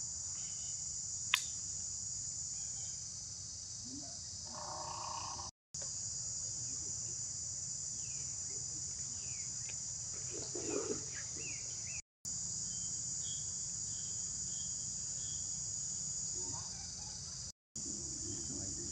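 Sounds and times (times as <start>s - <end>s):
high-pitched insect chorus: 0.0s - 18.9s.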